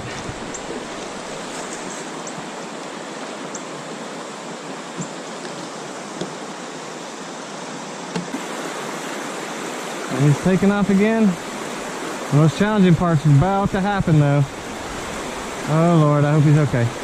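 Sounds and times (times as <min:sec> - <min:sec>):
river water rushing over rapids: 0:00.0 - 0:17.0.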